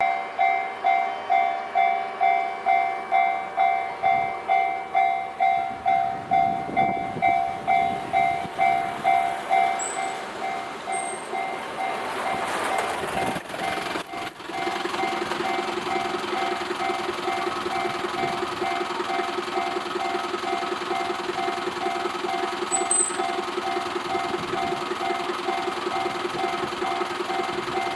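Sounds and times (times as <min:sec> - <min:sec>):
level crossing bell ringing: 0:00.0 - 0:27.9
train rumbling: 0:00.0 - 0:27.9.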